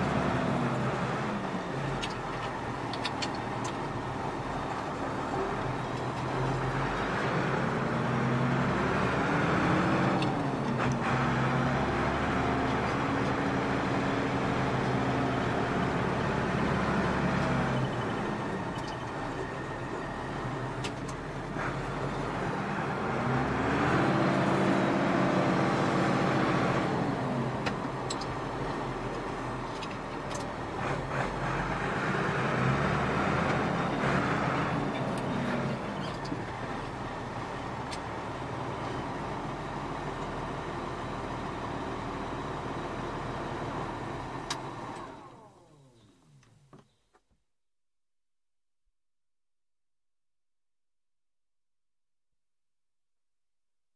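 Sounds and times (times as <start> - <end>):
tractor diesel engine revving: 0.0 - 46.4.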